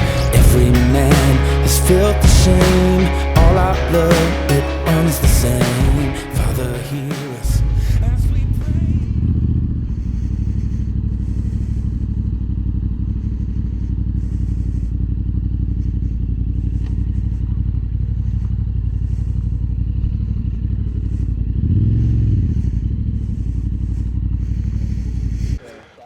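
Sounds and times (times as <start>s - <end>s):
motorcycle engine running: 0.0s - 25.6s.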